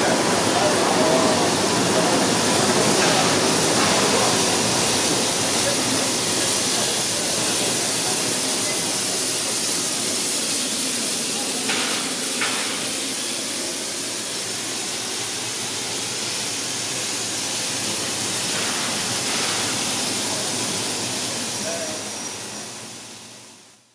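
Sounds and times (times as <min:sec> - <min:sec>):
steam locomotive hissing: 0:00.0 - 0:23.9.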